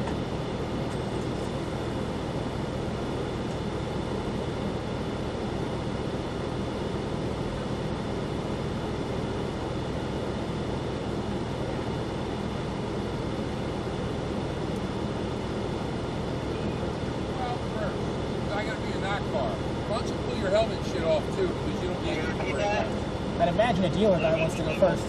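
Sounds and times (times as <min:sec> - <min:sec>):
car engine running steadily: 0:00.0 - 0:25.0.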